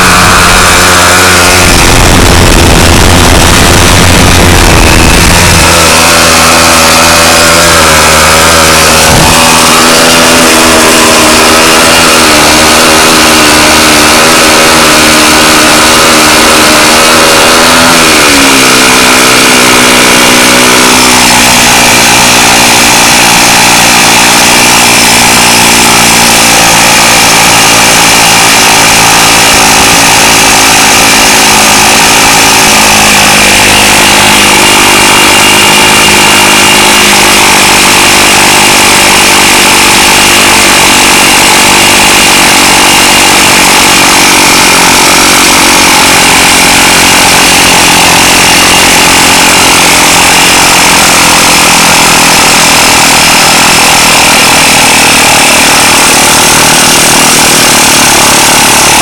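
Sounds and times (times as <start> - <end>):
air-powered engine buzzing: 0.0 - 59.0.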